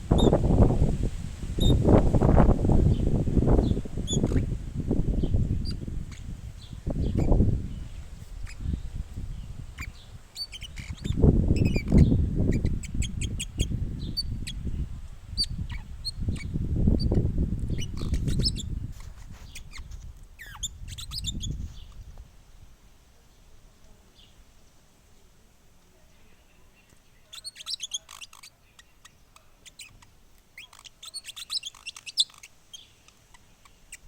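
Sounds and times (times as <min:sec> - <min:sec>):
birds chirping: 0:00.0 - 0:00.9, 0:01.6 - 0:22.2, 0:26.1 - 0:34.0.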